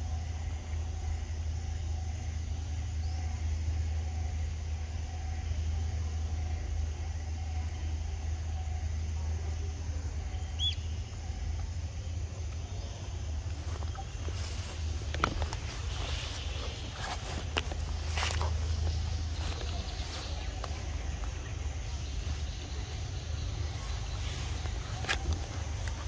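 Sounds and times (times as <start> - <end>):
faint wavering hum: 0.0 - 26.0
steady low rumble: 0.0 - 26.0.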